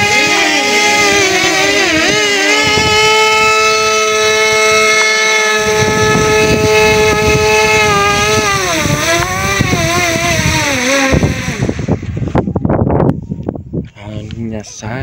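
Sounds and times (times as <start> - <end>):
drone propellers whining: 0.0 - 12.7
wind buffeting microphone: 0.0 - 15.0.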